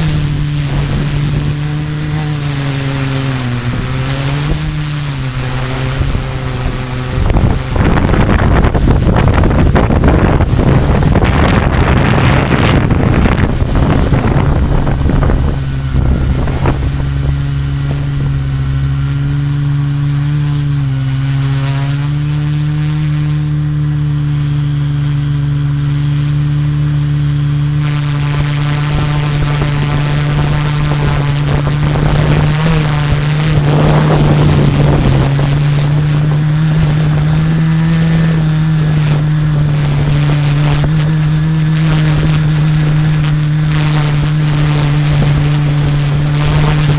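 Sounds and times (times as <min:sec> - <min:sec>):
drone propellers humming: 0:00.0 - 0:46.9
wind buffeting microphone: 0:00.0 - 0:46.9.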